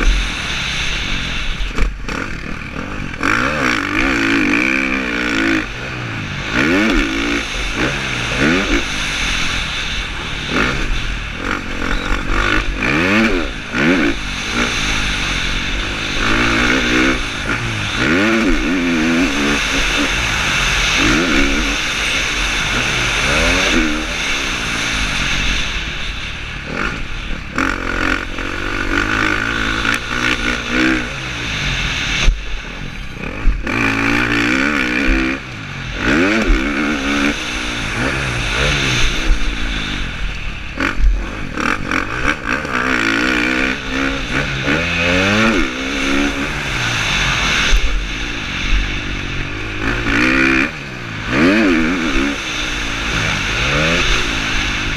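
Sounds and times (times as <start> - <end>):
constant rushing noise: 0.0 - 54.9
motorcycle engine revving: 0.0 - 54.9.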